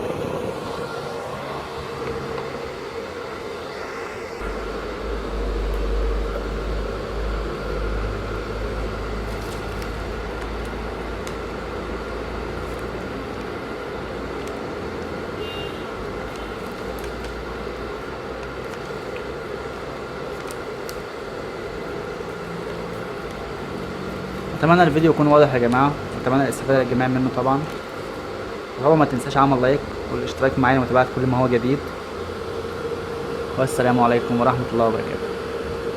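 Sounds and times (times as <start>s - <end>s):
cooling fan humming: 0.0s - 35.9s.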